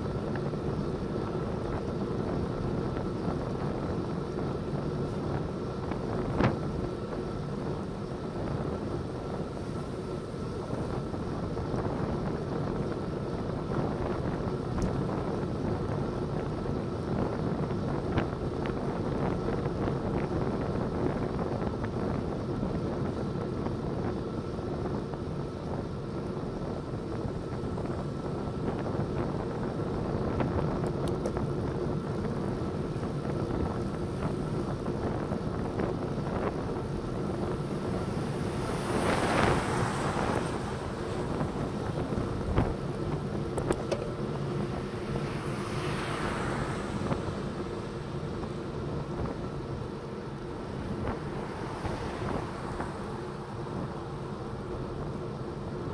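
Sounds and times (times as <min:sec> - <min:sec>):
road rumble: 0:00.0 - 0:55.9
wind on microphone: 0:00.0 - 0:55.9.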